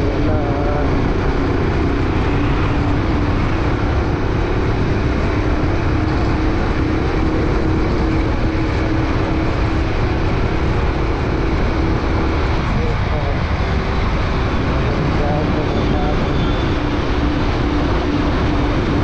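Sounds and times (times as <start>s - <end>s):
engine hum: 0.0s - 19.0s
wind buffeting microphone: 0.0s - 19.0s.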